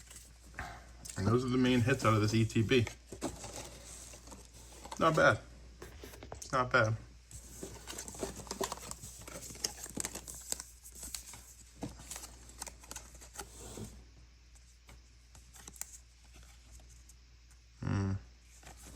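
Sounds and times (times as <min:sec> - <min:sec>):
cards and packaging rustling: 0:00.0 - 0:06.6, 0:07.3 - 0:14.0, 0:14.6 - 0:17.2.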